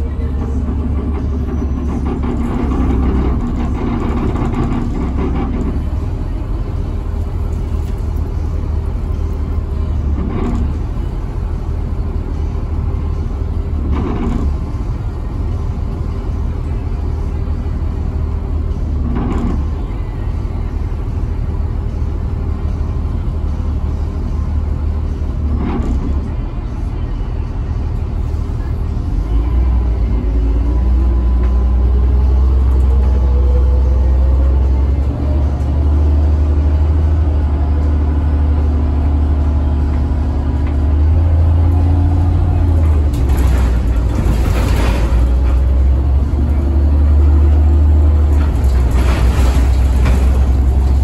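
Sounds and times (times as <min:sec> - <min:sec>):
bus body rattling: 0:00.0 - 0:51.0
bus diesel engine rumble: 0:00.0 - 0:51.0.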